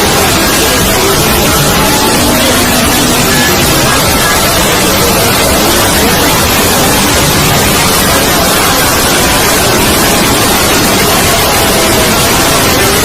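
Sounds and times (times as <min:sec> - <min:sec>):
sped-up soundtrack static hiss: 0:00.0 - 0:13.0.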